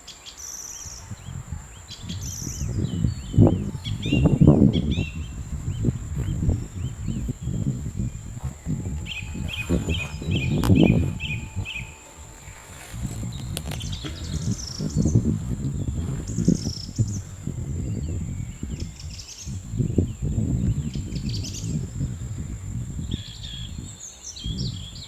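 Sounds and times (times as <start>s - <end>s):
small birds chirping: 0.0s - 25.0s
steady high-pitched whine: 0.0s - 25.0s
low rumbling noise: 1.0s - 23.9s.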